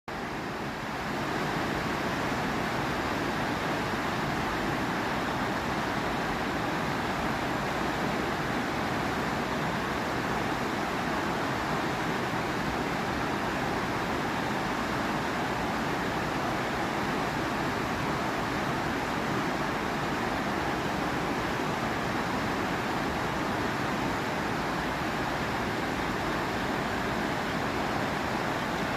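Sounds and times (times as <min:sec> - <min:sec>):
waterfall rushing: 0:00.2 - 0:28.9.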